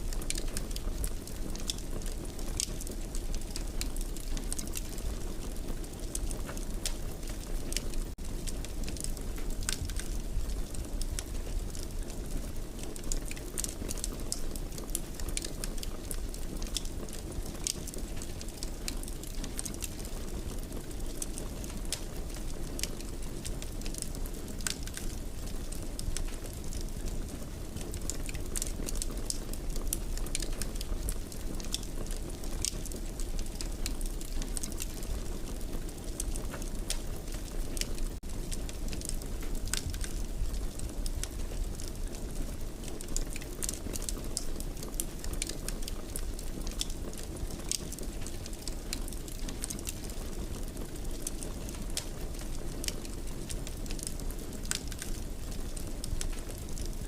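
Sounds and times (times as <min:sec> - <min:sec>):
fire low rumble: 0:00.0 - 0:57.0
wood fire crackling and popping: 0:00.0 - 0:57.0.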